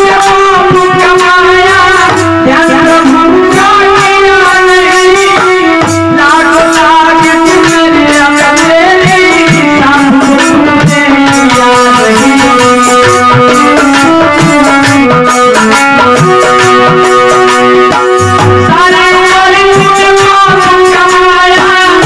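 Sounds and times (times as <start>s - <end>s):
hand drum beats: 0.0s - 22.0s
instrumental accompaniment: 0.0s - 22.0s
man singing: 0.0s - 22.0s.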